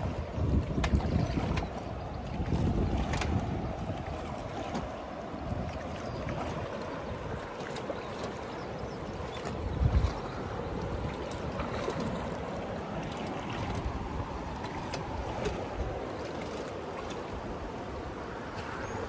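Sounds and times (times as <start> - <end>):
wind rumble on microphone: 0.0 - 19.0
river current rushing: 3.6 - 19.0.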